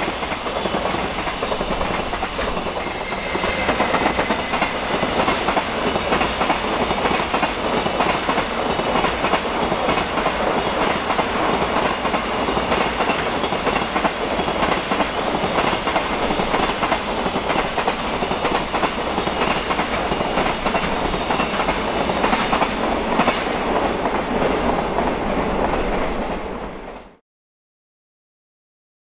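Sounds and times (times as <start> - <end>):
train wheels rumbling on rails: 0.0 - 27.2.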